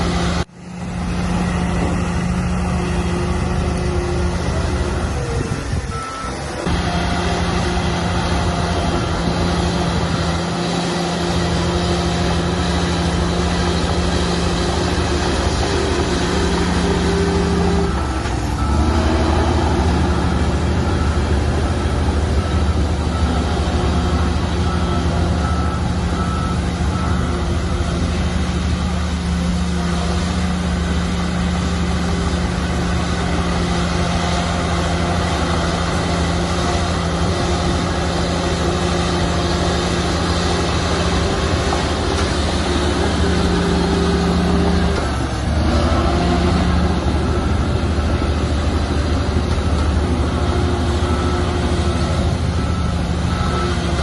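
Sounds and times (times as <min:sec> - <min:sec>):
bulldozer diesel engine running: 0:00.0 - 0:54.0
reversing alarm beeping: 0:01.9 - 0:54.0.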